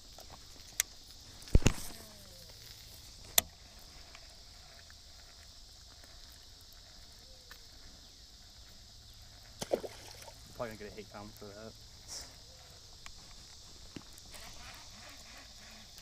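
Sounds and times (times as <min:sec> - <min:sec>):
faint outdoor hum and hiss: 0:00.0 - 0:16.0.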